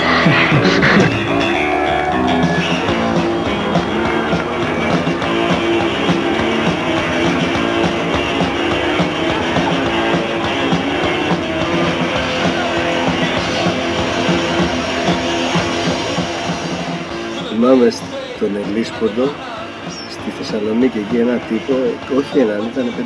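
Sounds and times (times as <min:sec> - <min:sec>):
drum kit steady beat: 0:00.0 - 0:01.6, 0:02.3 - 0:23.0
loud electric guitars: 0:00.0 - 0:23.0.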